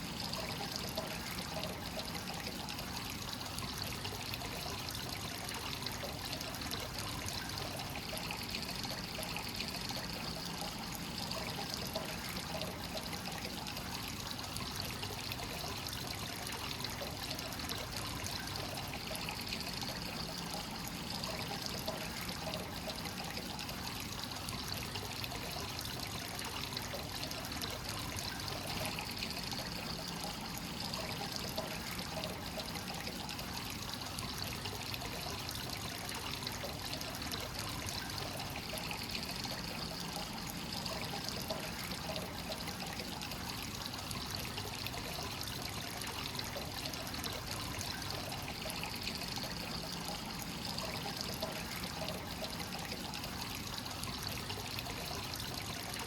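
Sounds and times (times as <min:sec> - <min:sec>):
hot spring water pouring into bath: 0:00.0 - 0:56.0.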